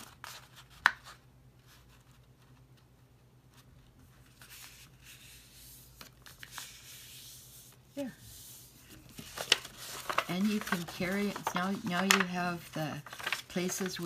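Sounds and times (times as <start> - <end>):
paper rustling: 0.0 - 14.0.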